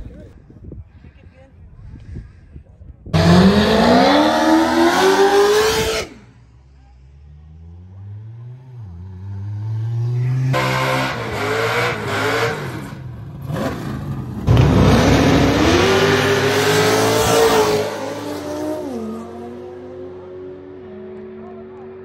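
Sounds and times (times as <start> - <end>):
drag racing cars revving: 3.1 - 6.4, 7.6 - 22.0.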